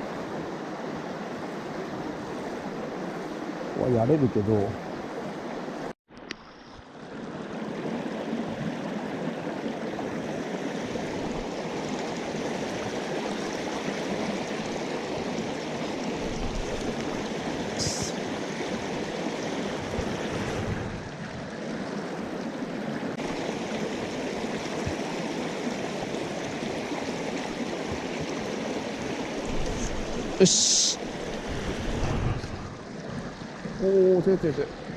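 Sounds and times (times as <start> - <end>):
stream rushing over rocks: 6.4 - 34.9.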